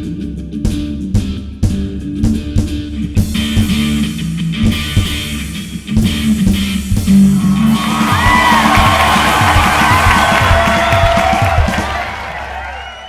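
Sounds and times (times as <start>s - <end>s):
rock music: 0.0s - 12.5s.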